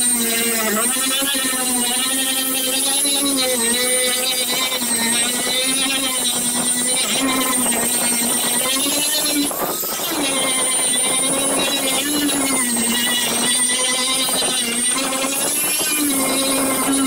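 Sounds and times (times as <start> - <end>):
power grinder whining: 0.0 - 17.0.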